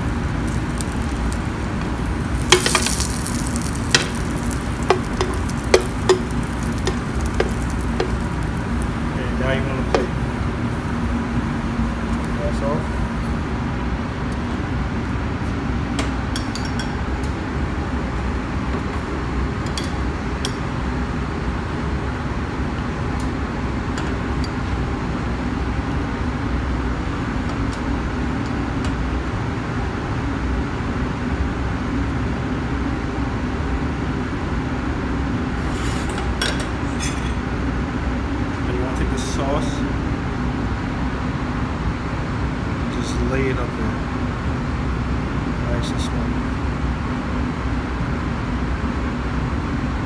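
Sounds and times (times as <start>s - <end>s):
kitchen ventilation rushing: 0.0s - 29.9s, 35.1s - 47.6s.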